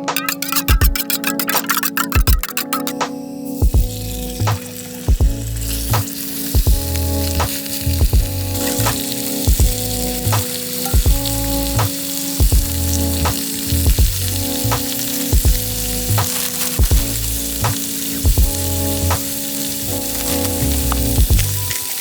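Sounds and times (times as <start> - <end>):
background music with beat: 0.0 - 22.0
food sizzling in a pan: 0.4 - 22.0.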